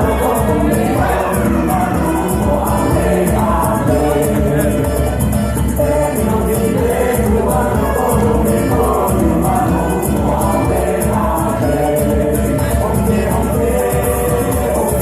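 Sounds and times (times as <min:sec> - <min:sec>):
group of voices singing: 0:00.0 - 0:15.0
rhythmic percussion: 0:00.0 - 0:15.0.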